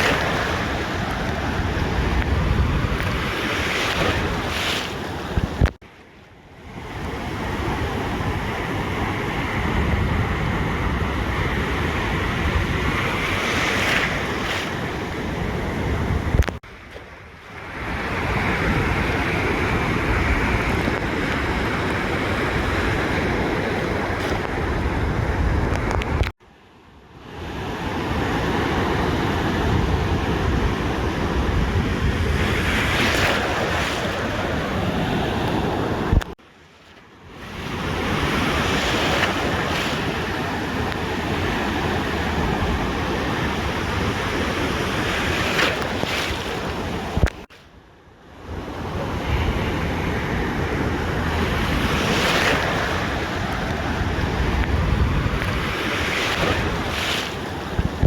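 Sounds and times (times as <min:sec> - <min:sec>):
ocean surf on beach: 0:00.0 - 0:58.0.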